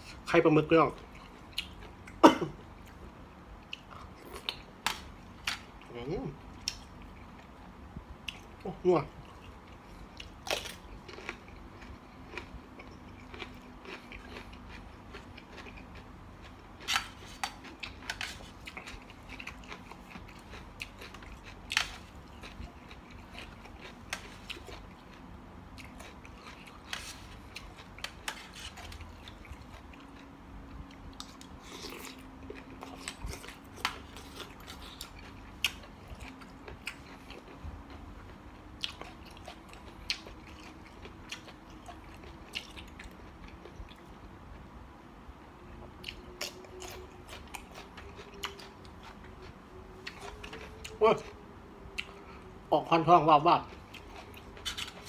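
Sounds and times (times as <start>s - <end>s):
person chewing food: 1.0s - 5.9s, 6.5s - 44.7s, 45.8s - 52.7s, 53.6s - 55.0s.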